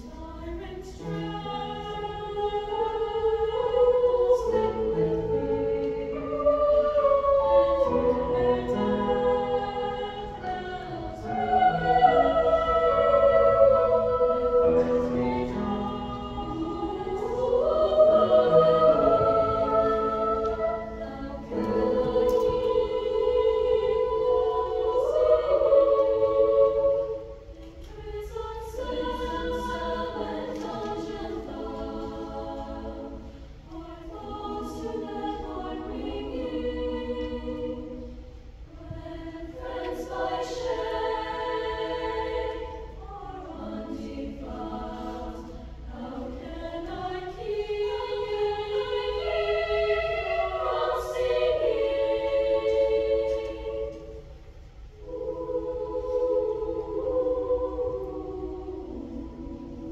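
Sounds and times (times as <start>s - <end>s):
choir of women singing: 0.0s - 59.9s.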